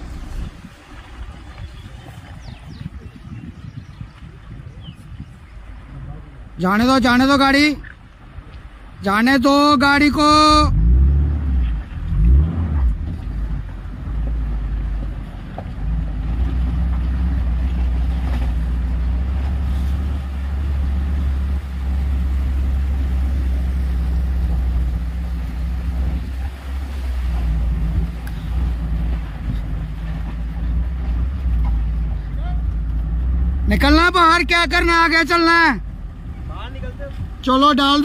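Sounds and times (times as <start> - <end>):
vehicle engine droning: 0.0 - 4.1, 10.0 - 38.0.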